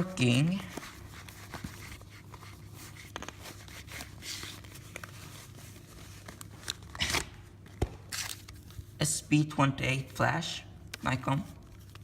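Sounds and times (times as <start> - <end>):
item rustling and crinkling: 0.0 - 9.0, 10.8 - 12.0.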